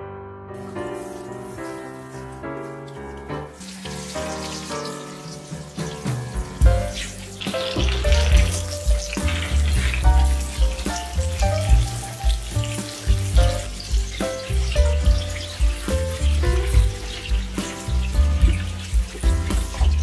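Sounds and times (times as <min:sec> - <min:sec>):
butter sizzling in frying pan: 0:00.6 - 0:20.0
background music with beat: 0:02.8 - 0:20.0.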